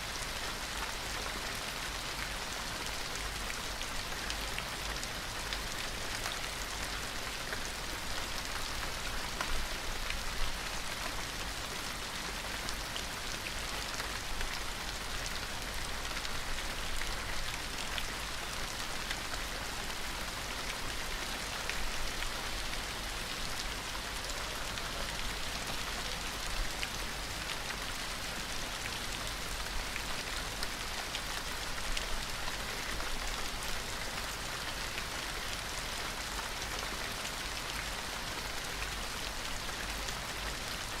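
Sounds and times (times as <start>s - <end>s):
gentle rain hiss: 0.0s - 41.0s.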